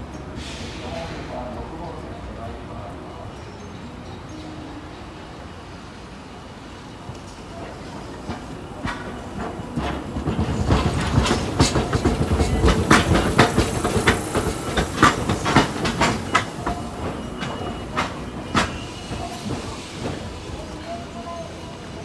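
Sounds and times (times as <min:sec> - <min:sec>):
low tram rumble: 0:00.0 - 0:22.0
tram wheels clattering over rails: 0:00.0 - 0:22.0.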